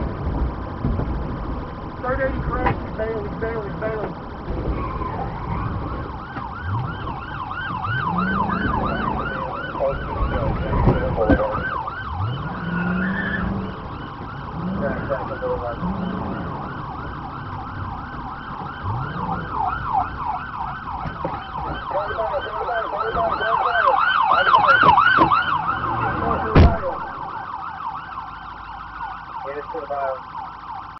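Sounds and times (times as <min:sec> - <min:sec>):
car engine revving: 0:00.0 - 0:27.6
police siren yelp: 0:00.0 - 0:30.9.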